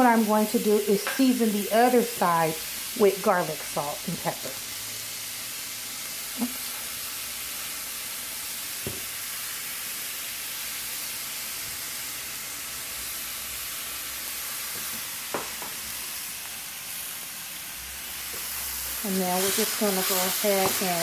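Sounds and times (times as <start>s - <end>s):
meat sizzling in a pan: 0.0s - 21.0s.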